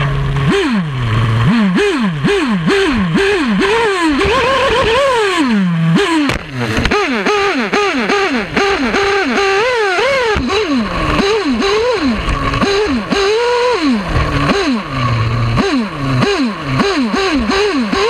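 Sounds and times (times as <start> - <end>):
model engine revving: 0.0 - 18.0.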